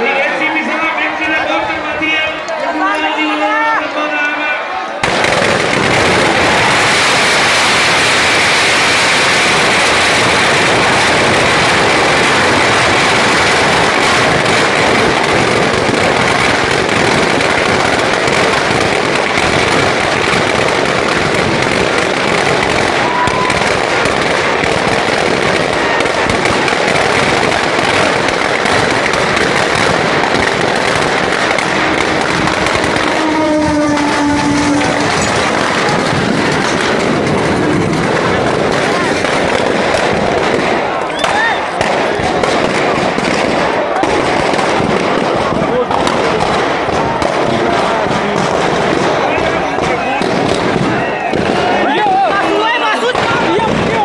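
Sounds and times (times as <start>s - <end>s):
firecrackers crackling: 4.9s - 54.0s.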